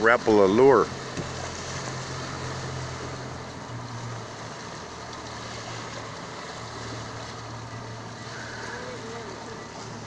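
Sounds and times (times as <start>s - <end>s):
boat engine humming: 0.0s - 10.0s
wind and water hiss: 0.0s - 10.0s.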